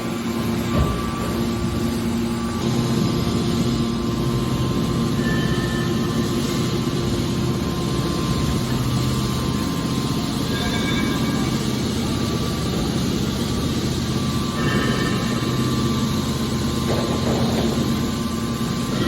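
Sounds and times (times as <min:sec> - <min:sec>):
baler power unit humming: 0:00.0 - 0:19.0.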